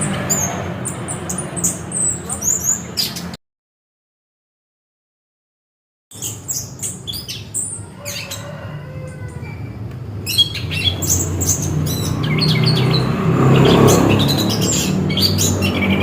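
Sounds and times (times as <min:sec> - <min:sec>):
bird singing high chirps: 0:00.0 - 0:03.4, 0:06.1 - 0:16.0.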